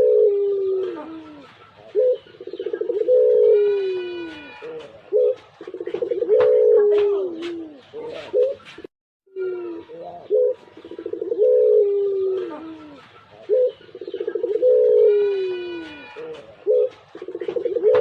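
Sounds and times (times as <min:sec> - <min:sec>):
dove cooing: 0:00.0 - 0:08.8, 0:09.4 - 0:18.0.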